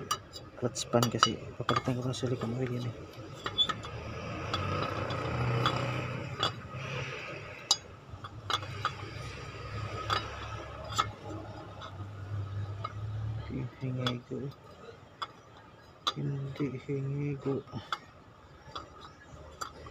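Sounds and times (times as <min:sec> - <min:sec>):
metal clinks and taps: 0:00.0 - 0:16.6, 0:17.6 - 0:19.9.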